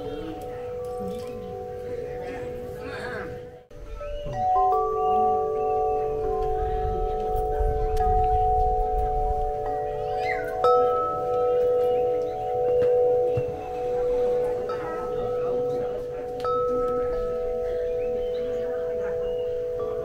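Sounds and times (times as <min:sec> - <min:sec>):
wind chimes ringing: 0:00.0 - 0:20.0.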